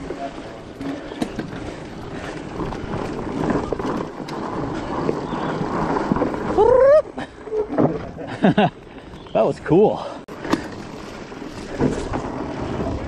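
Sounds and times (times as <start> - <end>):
bike rattling and clicking: 0.0 - 13.0
bike tyres rumbling on ground: 0.0 - 13.0.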